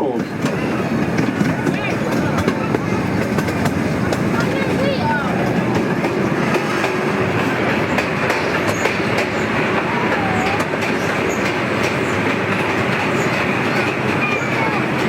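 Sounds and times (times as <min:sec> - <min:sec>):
train rumble: 0:00.0 - 0:15.0
wheel clicks over rail joints: 0:00.0 - 0:15.0.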